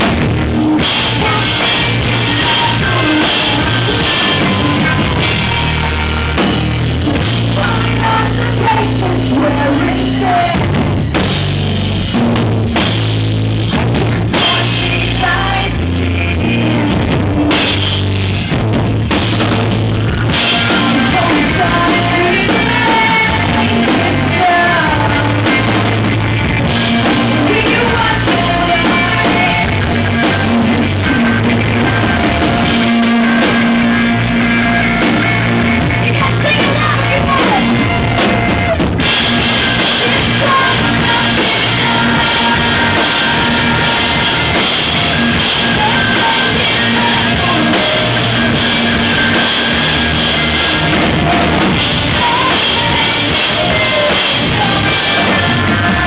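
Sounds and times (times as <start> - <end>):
rock band playing: 0.0 - 56.0
woman singing: 0.8 - 6.3, 7.1 - 10.8, 14.1 - 17.7, 20.3 - 38.8, 39.5 - 56.0.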